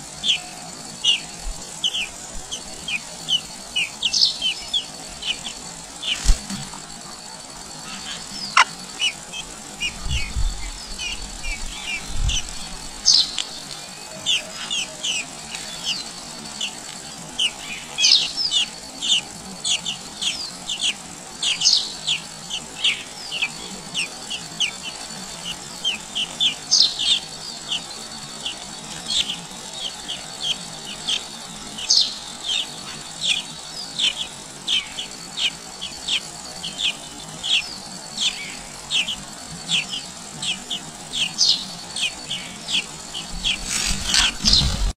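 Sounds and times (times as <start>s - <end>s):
nestling birds chirping: 0.0s - 44.9s.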